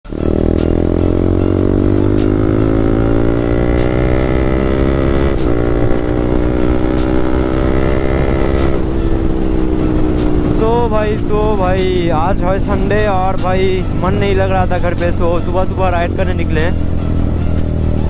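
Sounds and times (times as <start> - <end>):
motorcycle engine accelerating: 0.1 - 18.0.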